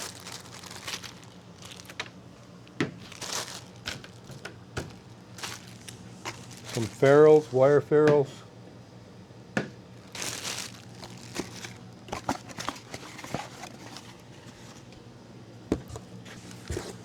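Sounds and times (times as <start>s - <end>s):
packaging rustling and crinkling: 0.0s - 7.6s, 9.9s - 15.0s, 15.8s - 17.0s.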